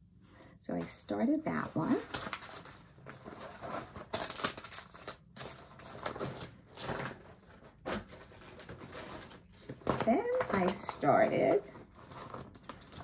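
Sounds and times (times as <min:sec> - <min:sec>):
fabric rustling and crinkling: 0:00.8 - 0:13.0.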